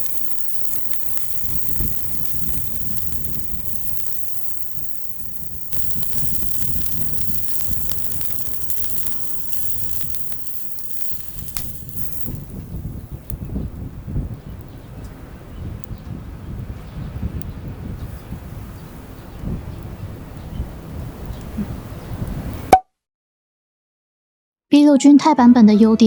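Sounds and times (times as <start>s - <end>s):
fire hissing and crackling: 0.0s - 22.7s.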